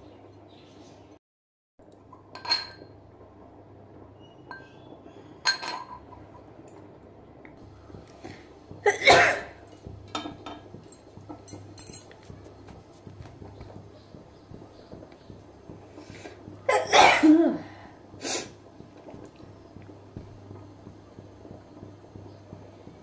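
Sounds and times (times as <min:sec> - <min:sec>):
low steady hum: 0:01.8 - 0:23.0.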